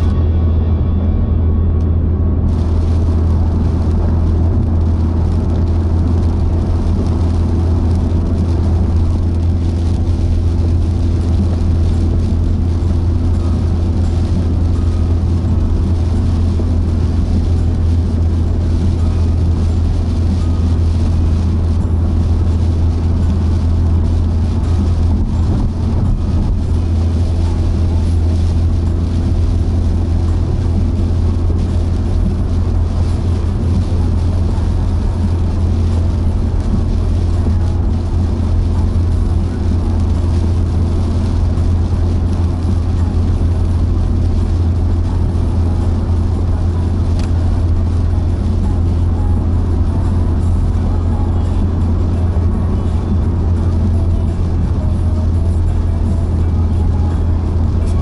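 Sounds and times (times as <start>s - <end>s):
engine and tyre drone: 0.0s - 58.0s
wet road hiss: 2.5s - 58.0s.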